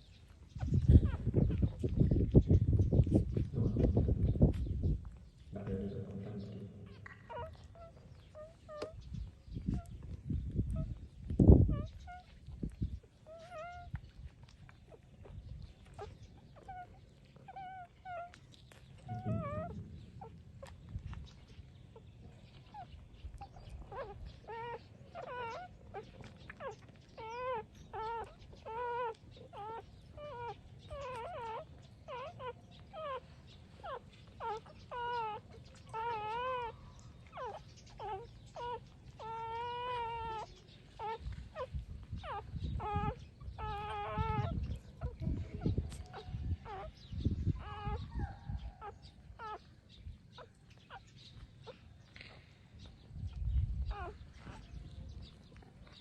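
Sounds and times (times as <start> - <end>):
puppies squeaking and whimpering: 0.0 - 56.0
puppy drawn-out whines: 0.3 - 2.0, 5.0 - 56.0.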